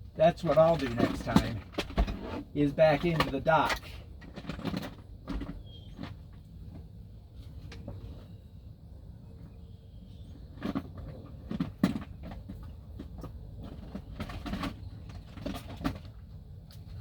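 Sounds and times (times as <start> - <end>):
knocks and rustles of handling: 0.4 - 8.3, 10.5 - 17.0.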